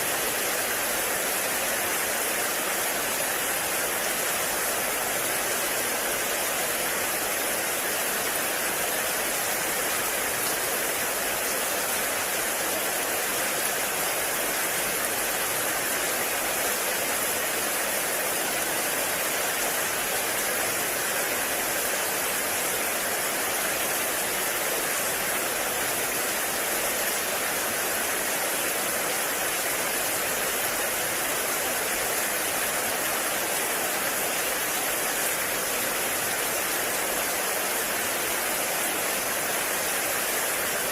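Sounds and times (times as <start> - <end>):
heavy rain on forest: 0.0 - 40.9.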